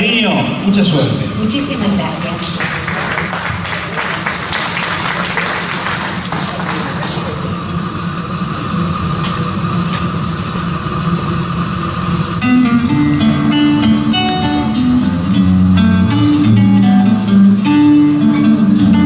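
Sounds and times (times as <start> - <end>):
audience noise: 0.0 - 19.0
room rumble of a hall: 0.0 - 19.0
thin steady whine: 0.0 - 19.0.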